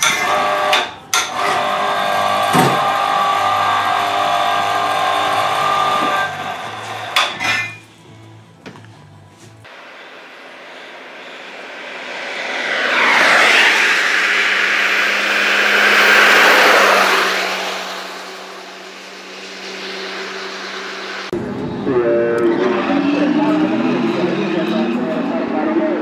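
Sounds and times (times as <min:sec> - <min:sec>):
coach bus passing close: 0:00.0 - 0:07.2, 0:09.2 - 0:26.0
highway traffic passing: 0:00.0 - 0:08.6, 0:09.2 - 0:26.0.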